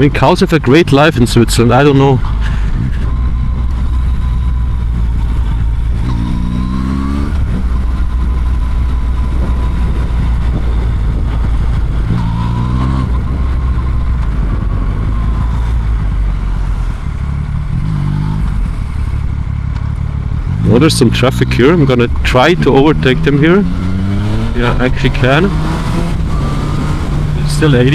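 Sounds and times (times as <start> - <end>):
motorcycle engine revving: 0.0 - 27.9
road noise rushing: 0.0 - 27.9.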